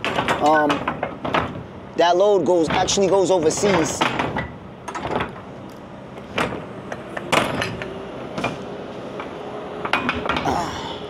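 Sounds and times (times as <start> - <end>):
sharp knocks and clunks: 0.0 - 1.7, 2.6 - 5.5, 6.2 - 10.6.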